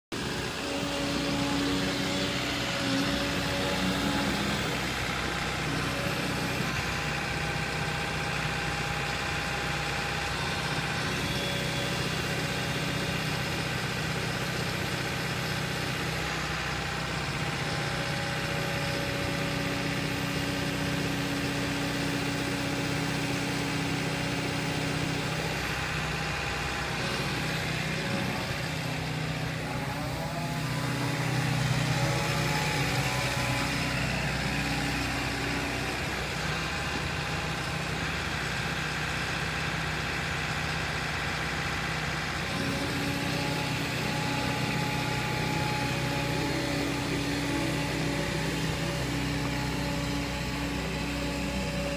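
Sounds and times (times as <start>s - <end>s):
excavator diesel engine running: 0.1s - 51.9s.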